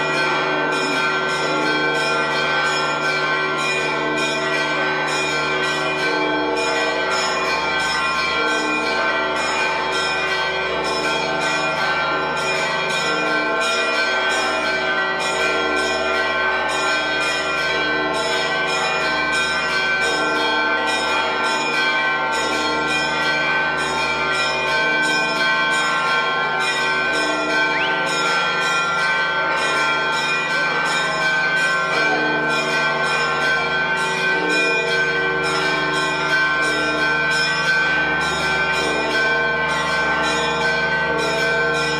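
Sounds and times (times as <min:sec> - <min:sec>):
church bells pealing: 0:00.0 - 0:41.9.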